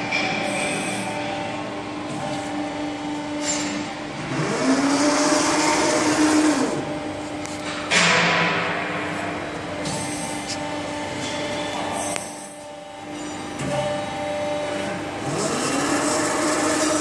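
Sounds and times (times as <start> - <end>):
hydraulic pump hum: 0.0 - 17.0.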